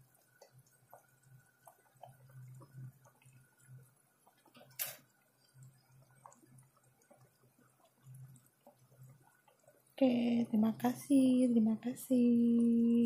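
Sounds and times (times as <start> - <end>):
soup simmering pops: 0.0 - 13.0.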